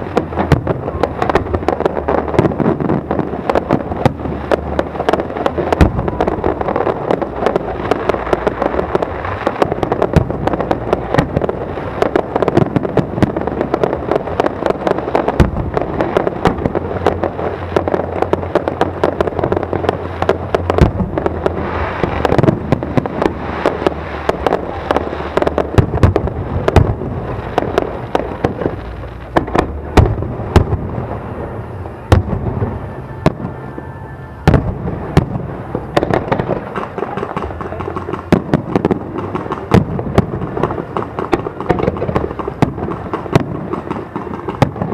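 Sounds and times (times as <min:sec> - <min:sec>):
deep fireworks booms: 0:00.0 - 0:44.9
fireworks crackling: 0:00.0 - 0:44.9.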